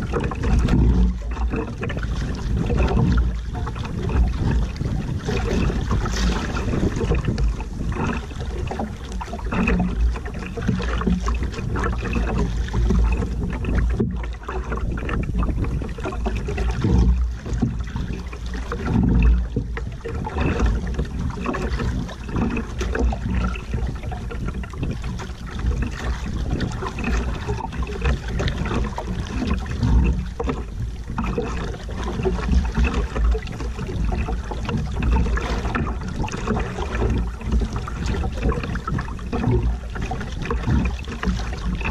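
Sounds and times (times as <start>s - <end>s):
water sloshing against canoe hull: 0.0s - 41.9s
wind rumble on microphone: 0.0s - 41.9s.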